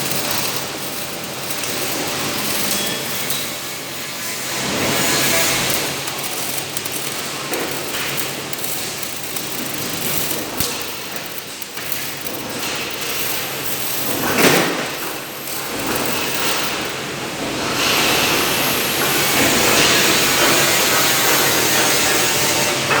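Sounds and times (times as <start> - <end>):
robotic welding hissing: 0.0 - 23.0.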